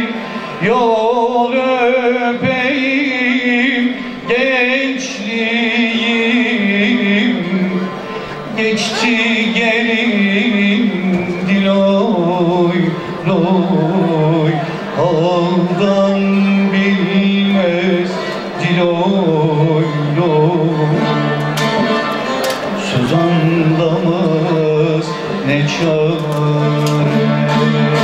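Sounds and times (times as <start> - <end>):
man singing folk song: 0.0 - 28.0
plucked string instrument: 0.0 - 28.0.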